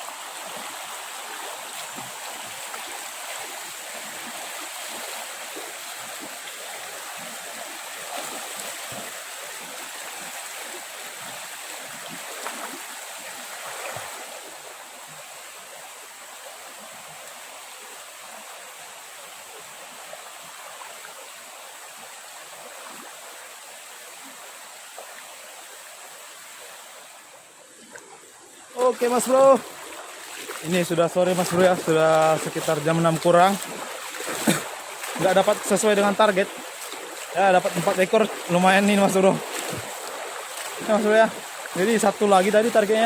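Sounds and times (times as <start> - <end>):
stream water running: 0.0 - 43.0.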